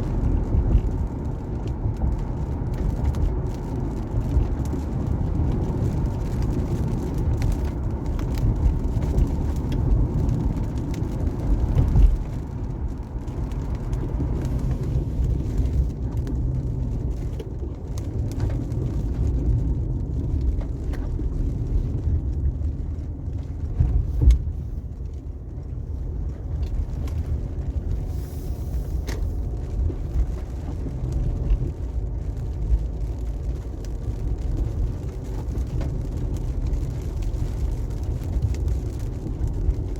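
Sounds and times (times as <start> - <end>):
tyres rumbling on wet road: 0.0 - 39.9.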